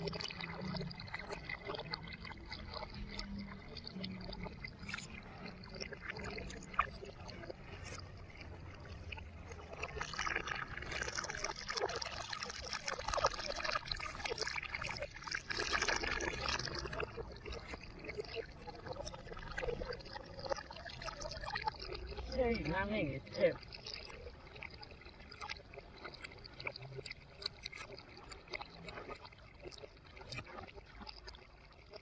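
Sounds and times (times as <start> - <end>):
hose water pouring into tub: 0.0 - 32.0.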